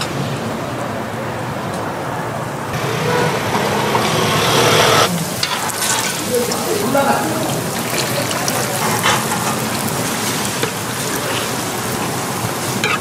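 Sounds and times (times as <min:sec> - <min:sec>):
street noise hiss: 0:00.0 - 0:13.0.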